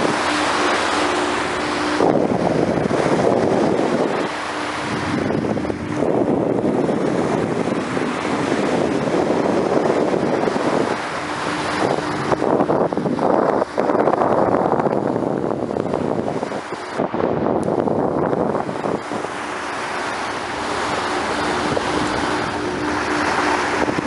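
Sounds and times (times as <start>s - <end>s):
sea water rushing along hull: 0.0s - 24.0s
wind buffeting microphone: 0.0s - 24.0s.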